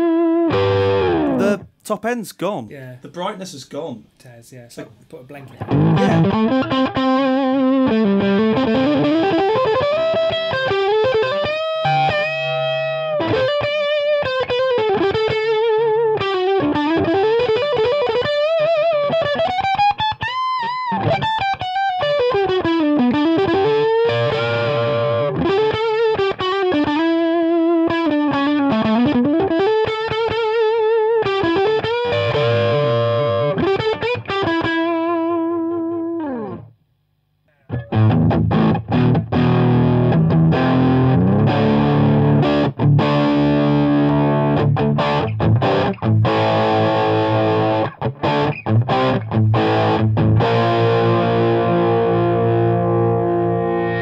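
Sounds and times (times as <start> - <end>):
electric guitar lead line: 0.0 - 1.7, 5.5 - 36.7, 37.7 - 54.0.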